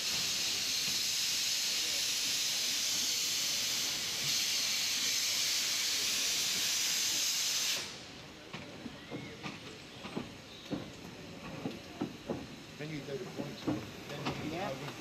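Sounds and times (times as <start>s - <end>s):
steam hissing from locomotive: 0.0s - 15.0s.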